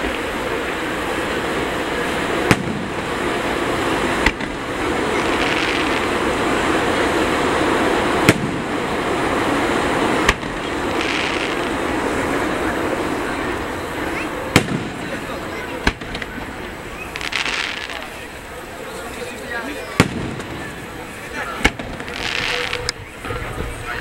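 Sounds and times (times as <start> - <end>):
firework shells bursting: 0.0 - 18.5, 19.8 - 23.0
steady background hiss: 0.0 - 24.0.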